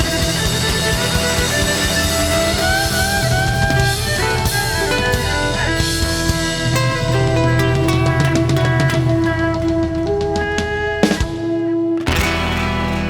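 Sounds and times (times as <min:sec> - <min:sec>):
electric guitar lead: 0:00.0 - 0:13.0
live rock band playing: 0:00.0 - 0:13.0.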